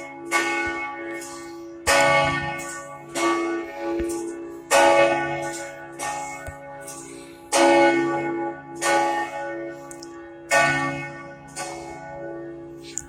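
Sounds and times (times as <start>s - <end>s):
church bell ringing: 0.0s - 13.0s.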